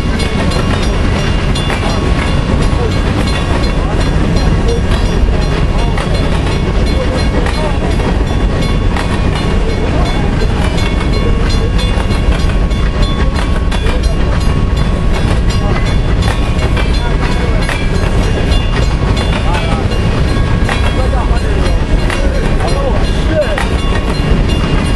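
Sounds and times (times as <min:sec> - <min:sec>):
train wheels rumbling on rail: 0:00.0 - 0:24.9
wheels clicking over rail joints: 0:00.0 - 0:24.9.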